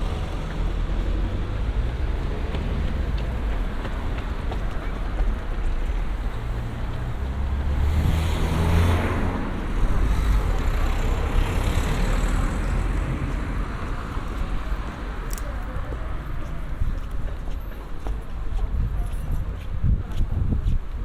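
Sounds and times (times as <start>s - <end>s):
low traffic rumble: 0.0s - 21.0s
vehicles passing: 0.0s - 21.0s.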